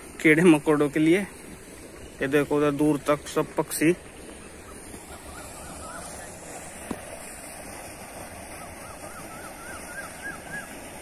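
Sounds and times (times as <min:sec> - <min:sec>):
water gushing from pipe: 0:00.0 - 0:11.0.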